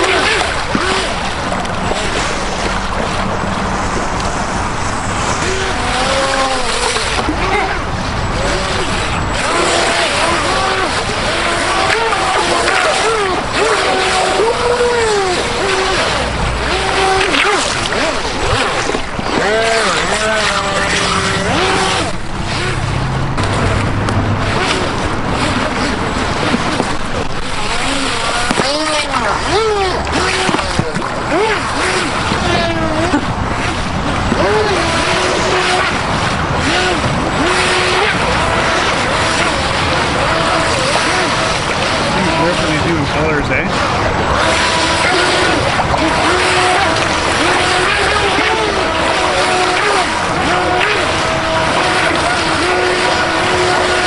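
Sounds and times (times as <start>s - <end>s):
electric boat motors humming: 0.0s - 54.0s
rushing water: 0.0s - 54.0s.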